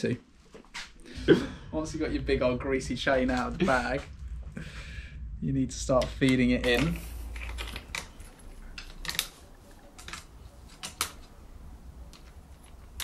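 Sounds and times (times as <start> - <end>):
low steady hum: 1.0 - 13.0.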